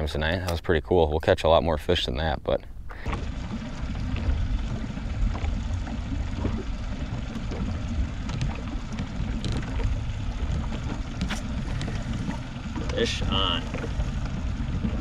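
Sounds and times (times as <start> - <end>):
wind rumbling on microphone: 0.6 - 15.0.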